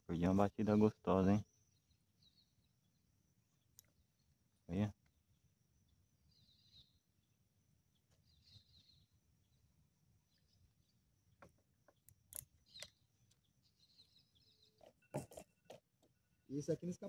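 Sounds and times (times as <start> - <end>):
faint bird chirps: 0.1 - 17.0.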